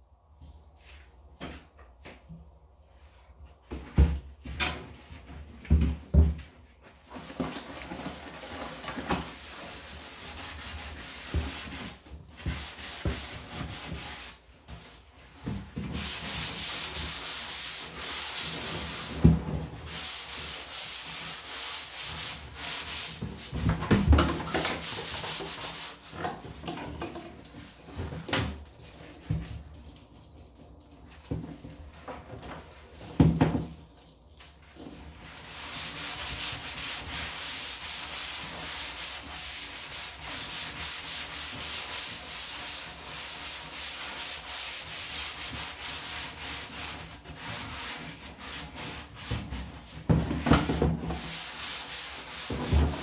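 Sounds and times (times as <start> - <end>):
sponge scrubbing plastic: 4.9 - 53.0.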